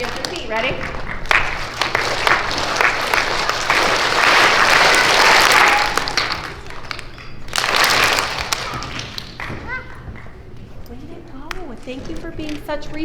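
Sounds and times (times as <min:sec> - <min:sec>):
young children clapping: 0:00.0 - 0:13.0.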